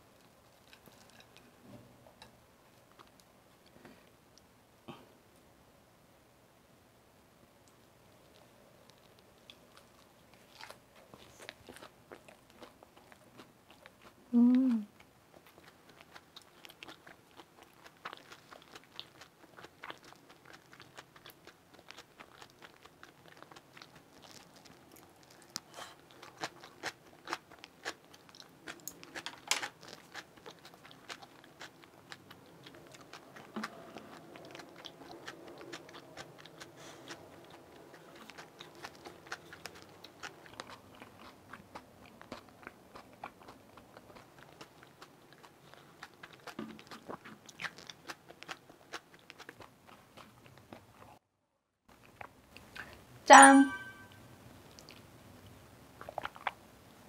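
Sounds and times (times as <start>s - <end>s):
chewing and crunching: 0.1s - 1.6s, 7.6s - 14.3s, 14.9s - 51.2s, 51.9s - 53.1s, 54.0s - 57.0s.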